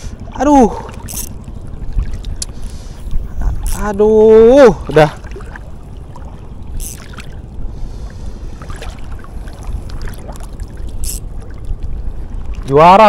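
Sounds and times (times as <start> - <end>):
faint water wash: 0.0 - 13.0
wind rumble on microphone: 0.0 - 13.0.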